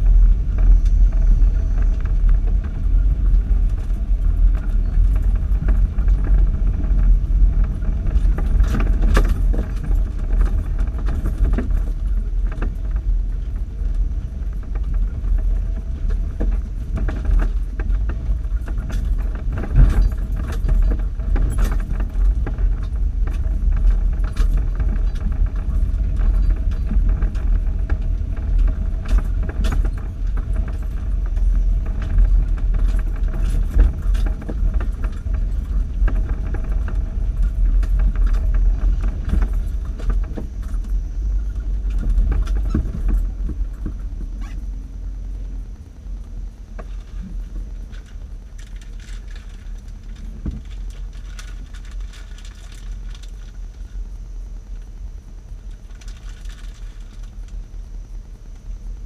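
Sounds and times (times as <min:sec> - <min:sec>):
rattles and knocks over bumps: 0:00.0 - 0:58.0
engine and road rumble: 0:00.0 - 0:59.0.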